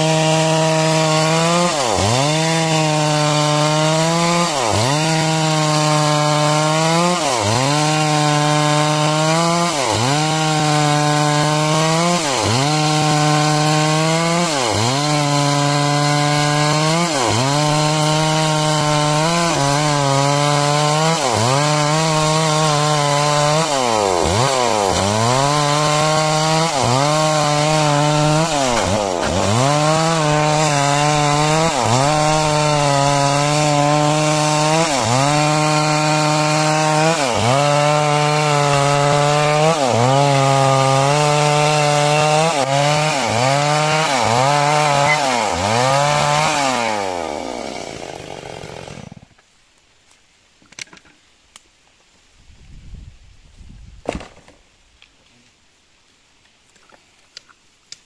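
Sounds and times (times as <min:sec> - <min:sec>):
chainsaw cutting timber: 0:00.0 - 0:49.4.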